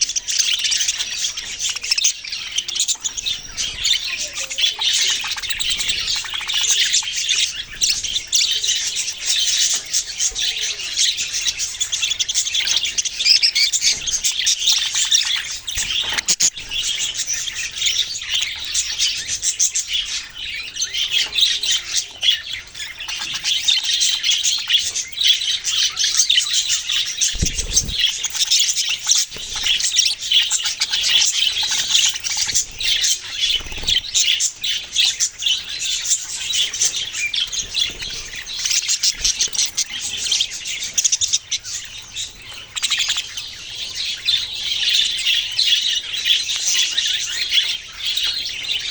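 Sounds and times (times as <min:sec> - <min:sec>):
bird squawks: 0:00.0 - 0:46.1
pet birds chirping and chattering: 0:00.0 - 0:48.9.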